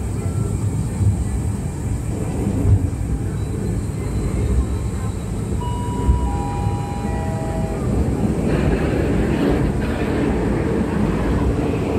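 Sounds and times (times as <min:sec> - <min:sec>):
train car running on rails: 0:00.0 - 0:11.9.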